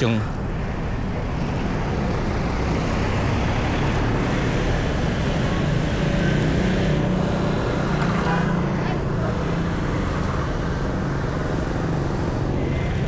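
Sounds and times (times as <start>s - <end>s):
road and traffic noise: 0.0s - 13.0s.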